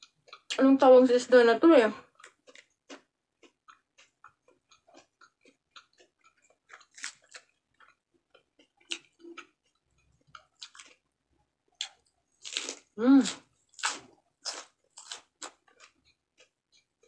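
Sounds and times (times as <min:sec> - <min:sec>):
chewing fried food: 0:00.0 - 0:00.6, 0:02.0 - 0:17.0.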